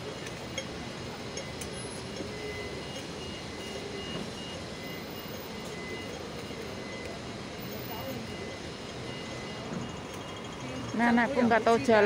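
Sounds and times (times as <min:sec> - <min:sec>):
street traffic noise: 0:00.0 - 0:12.0
faint high-pitched beeps: 0:00.1 - 0:12.0.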